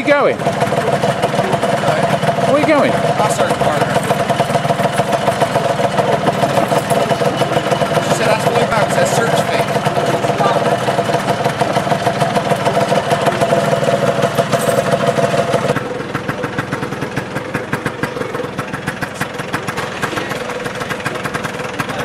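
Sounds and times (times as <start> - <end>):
scooter engine idling: 0.0 - 22.0.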